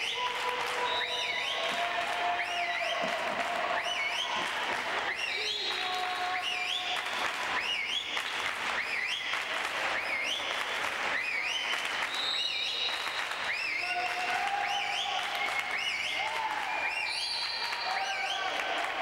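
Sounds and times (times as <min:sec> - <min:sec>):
sports hall din: 0:00.0 - 0:19.0.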